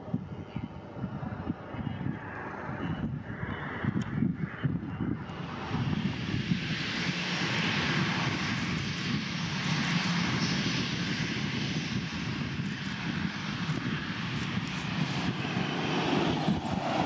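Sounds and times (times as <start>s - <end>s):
jet engines at low thrust: 0.0s - 17.0s.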